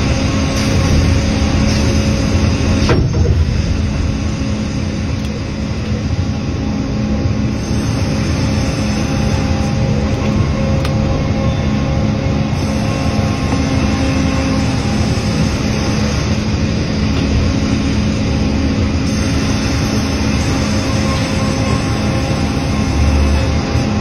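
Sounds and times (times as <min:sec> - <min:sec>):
sawmill machine drone: 0:00.0 - 0:24.0.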